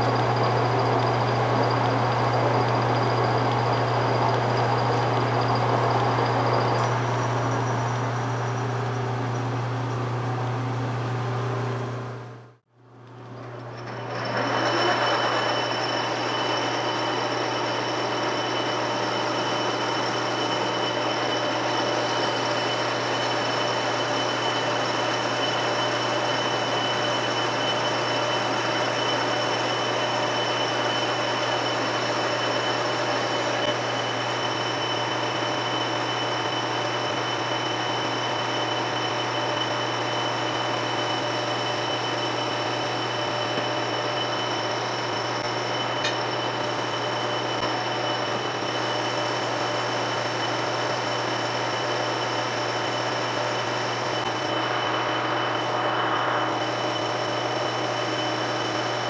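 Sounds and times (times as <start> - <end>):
metal lathe humming: 0.0 - 12.4, 13.0 - 59.0.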